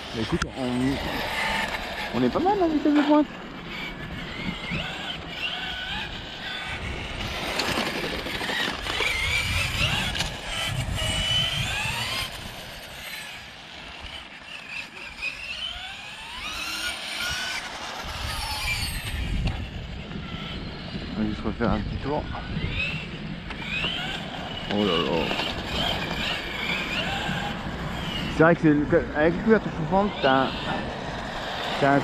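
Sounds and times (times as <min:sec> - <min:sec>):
rc car electric motor whining: 0:00.0 - 0:32.0.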